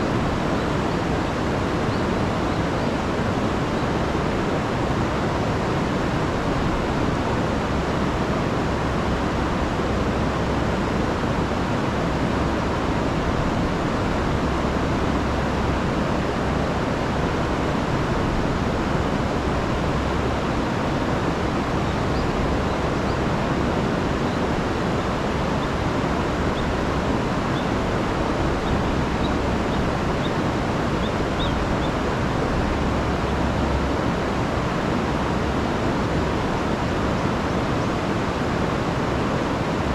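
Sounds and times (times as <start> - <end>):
river rushing over falls: 0.0 - 39.9.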